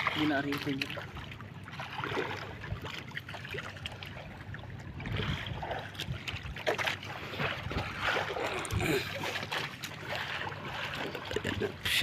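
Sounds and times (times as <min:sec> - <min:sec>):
boat engine running: 0:00.0 - 0:12.0
water around hull: 0:00.0 - 0:12.0.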